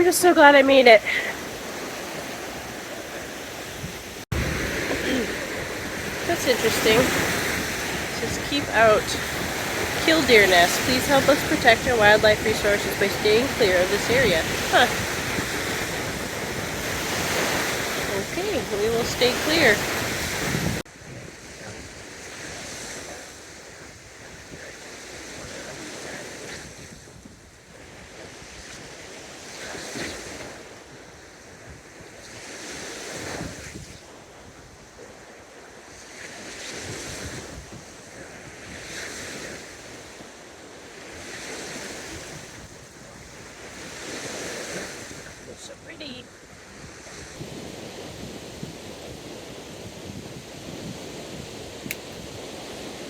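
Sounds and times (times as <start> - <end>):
waves breaking on beach: 0.0 - 53.0
wind buffeting microphone: 0.0 - 53.0.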